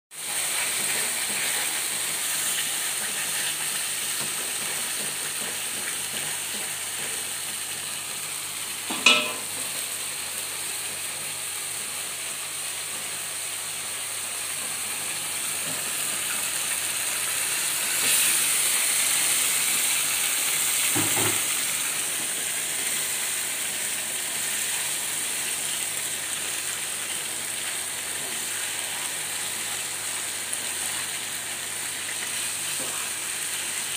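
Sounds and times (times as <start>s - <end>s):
spice paste sizzling in a wok: 0.1s - 33.9s.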